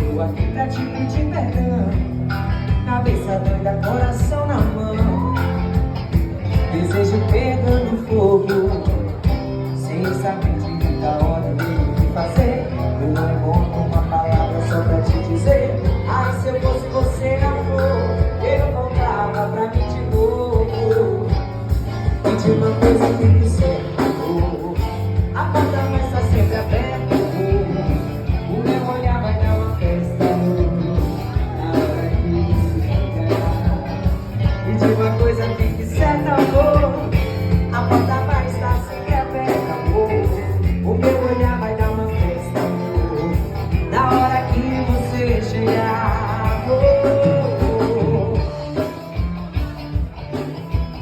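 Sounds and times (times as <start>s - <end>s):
upbeat song with singing: 0.0s - 51.0s.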